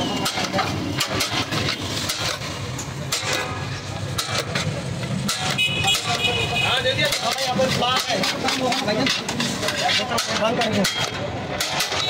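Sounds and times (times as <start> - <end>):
metal spoon scraping a metal pot: 0.0 - 12.0.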